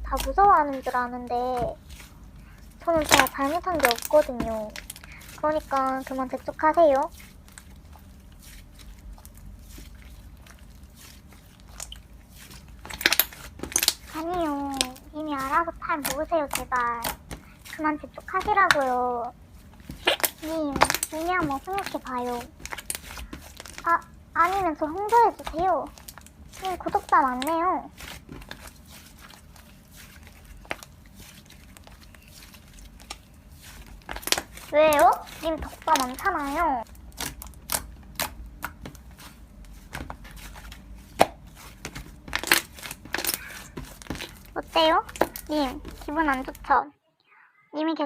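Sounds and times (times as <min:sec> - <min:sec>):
slime crackling and clicking: 0:02.9 - 0:08.1, 0:08.7 - 0:33.2, 0:33.8 - 0:39.3, 0:39.9 - 0:46.7.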